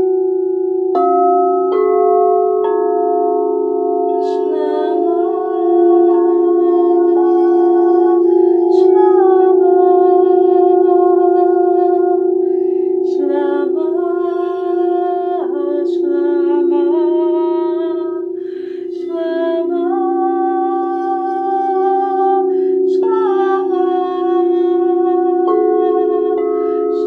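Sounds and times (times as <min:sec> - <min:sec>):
steady drone: 0:03.4 - 0:27.0
woman chanting: 0:04.1 - 0:27.0.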